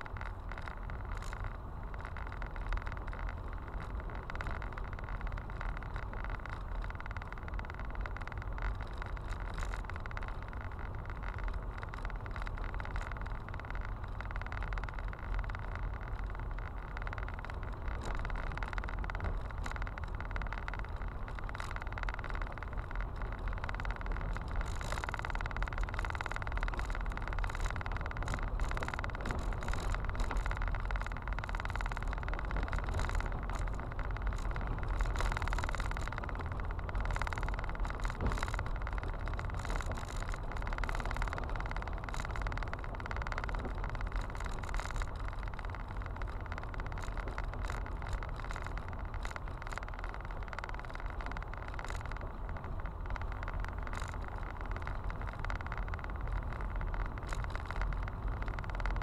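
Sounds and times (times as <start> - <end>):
car road rumble: 0.0 - 59.0
stones clicking under tyres: 0.0 - 59.0.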